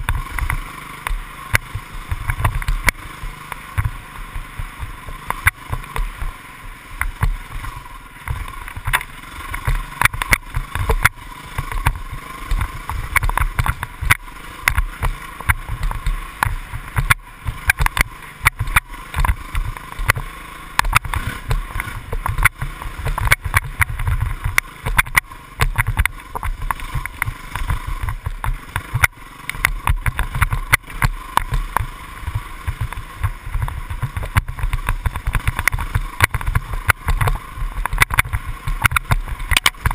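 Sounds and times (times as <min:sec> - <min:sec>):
muffled dirt bike engine running: 0:00.0 - 0:39.9
knocks and rattles from bumps: 0:07.0 - 0:39.9.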